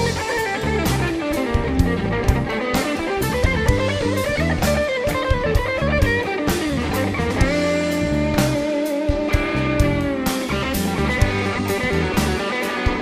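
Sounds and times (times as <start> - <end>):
bass guitar: 0.0 - 13.0
drums: 0.0 - 13.0
electric guitar lead: 0.0 - 13.0.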